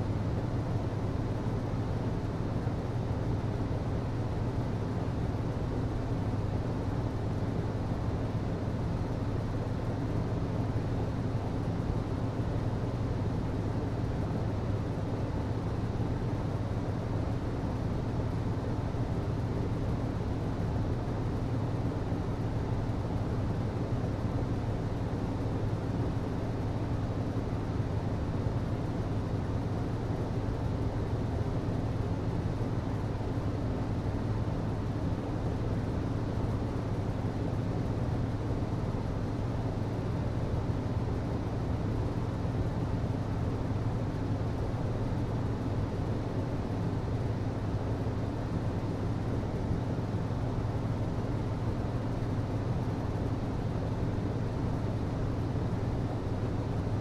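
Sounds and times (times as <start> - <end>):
hvac system hum: 0.0 - 57.0.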